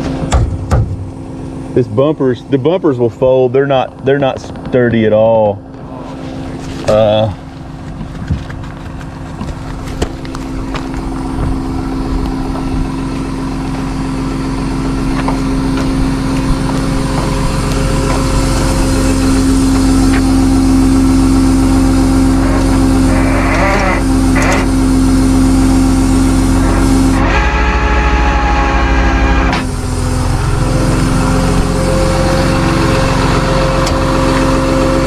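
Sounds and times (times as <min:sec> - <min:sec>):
truck engine droning hum: 0:00.0 - 0:35.0.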